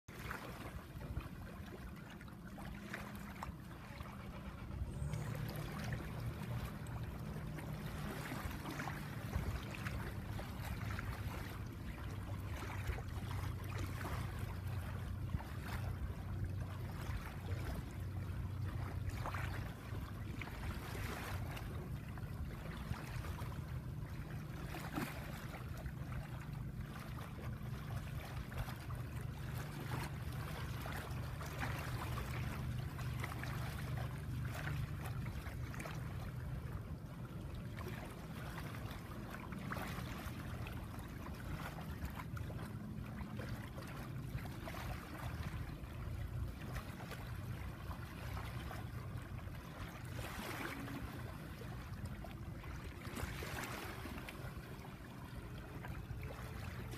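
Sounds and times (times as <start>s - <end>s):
seawater lapping on sandy shore: 0.1s - 56.9s
steady low rumble: 0.1s - 56.9s.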